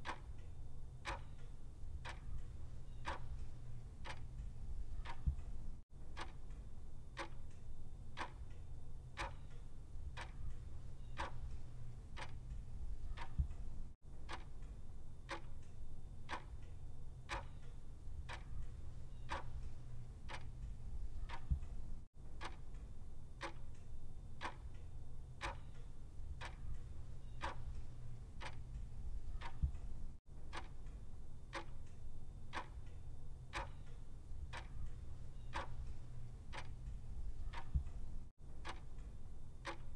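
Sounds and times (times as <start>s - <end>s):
steady low hum: 0.0s - 39.9s
timer ticking: 0.0s - 39.9s.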